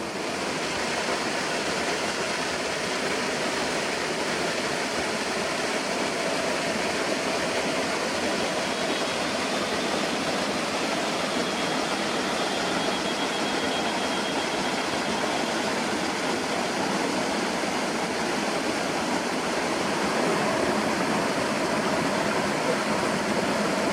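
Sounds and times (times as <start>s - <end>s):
water rushing: 0.0s - 23.9s.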